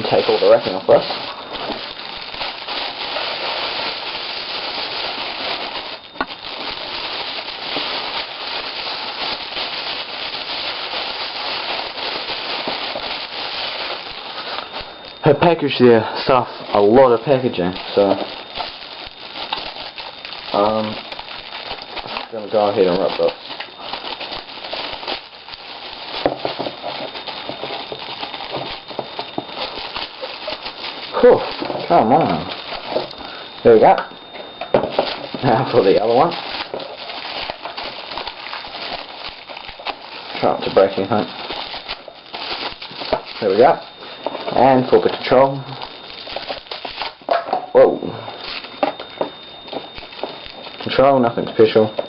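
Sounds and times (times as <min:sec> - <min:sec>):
plastic packaging crinkling: 0:00.0 - 0:52.0.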